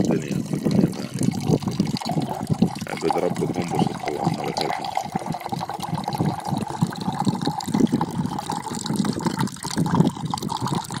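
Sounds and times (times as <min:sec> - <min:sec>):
water pouring into metal bowl: 0:00.0 - 0:11.0.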